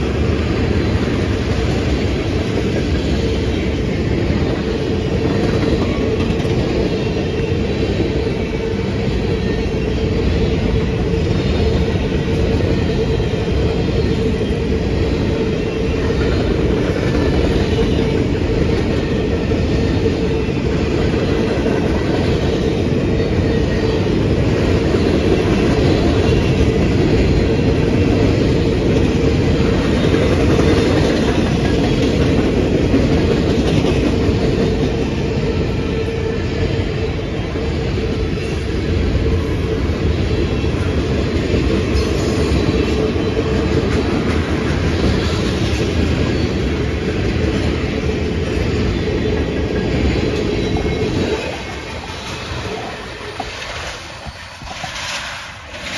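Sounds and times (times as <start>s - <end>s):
train wheels rolling on rail: 0.0s - 55.9s.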